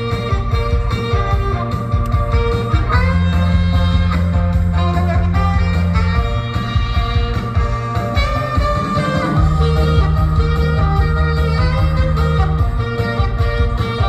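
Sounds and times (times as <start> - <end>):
band accompaniment: 0.0 - 14.0
saxophone playing pop melody: 0.0 - 14.0.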